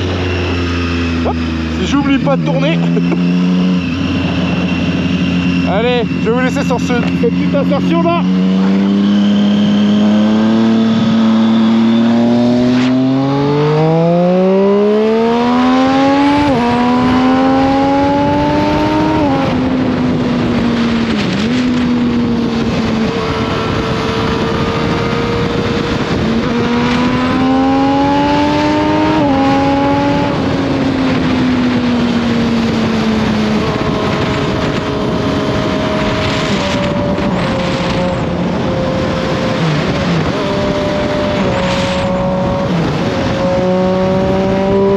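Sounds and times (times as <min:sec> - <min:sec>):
motorcycle engine accelerating: 0:00.0 - 0:44.9
wind noise: 0:00.0 - 0:44.9.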